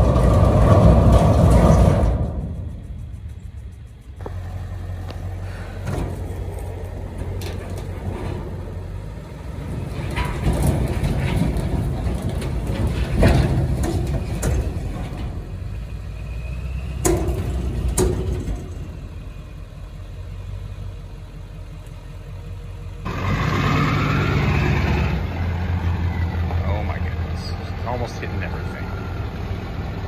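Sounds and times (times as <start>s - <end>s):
pickup truck driving: 0.0s - 30.0s
truck engine running: 0.0s - 30.0s.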